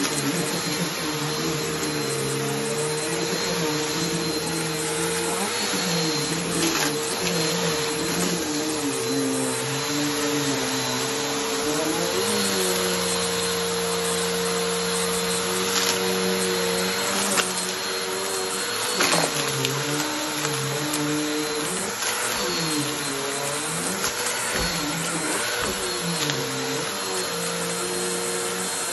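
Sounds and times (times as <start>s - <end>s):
vacuum cleaner on rug: 0.0s - 28.9s.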